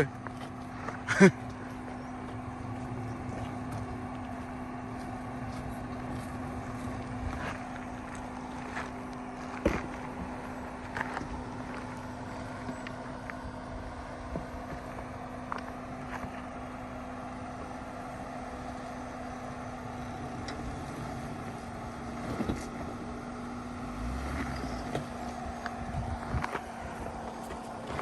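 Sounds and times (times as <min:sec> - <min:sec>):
vehicle engine running steadily: 0:00.0 - 0:28.0.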